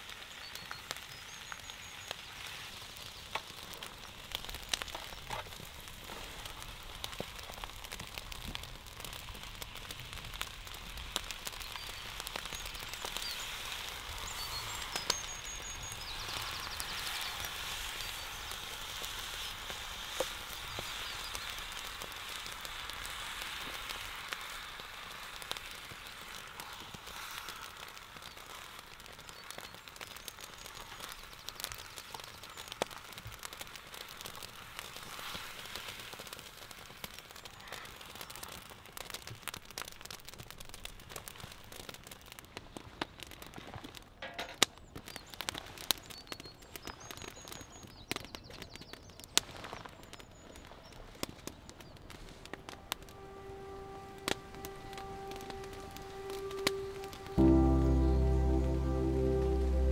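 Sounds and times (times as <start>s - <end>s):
fire crackling and hissing: 0.0s - 59.9s
sharp pops from fire: 0.0s - 59.9s.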